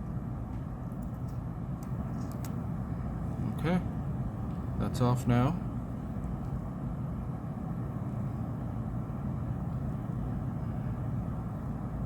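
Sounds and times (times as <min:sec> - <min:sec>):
hot-air tool blowing hum: 0:00.0 - 0:12.0.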